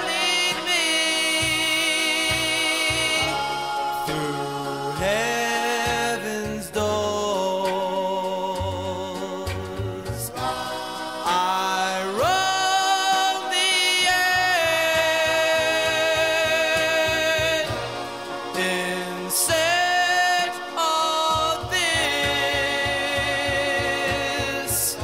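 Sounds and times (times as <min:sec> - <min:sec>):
song with held sung notes: 0:00.0 - 0:25.0
steady low beat: 0:00.0 - 0:25.0.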